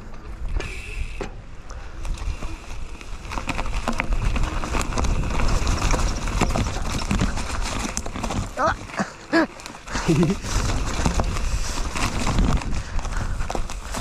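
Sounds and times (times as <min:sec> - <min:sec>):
bike rattling clicks: 0:00.0 - 0:14.0
low wind rumble on microphone: 0:00.0 - 0:14.0.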